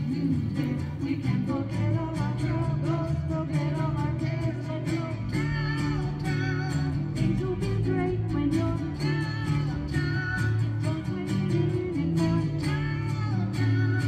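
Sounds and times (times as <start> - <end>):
strummed amplified guitar: 0.0 - 14.0
woman and man singing: 0.0 - 14.0.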